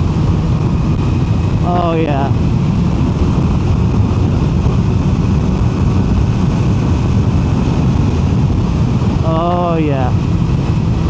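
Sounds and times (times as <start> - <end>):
motorcycle engine running: 0.0 - 11.0
wind and road rush: 0.0 - 11.0.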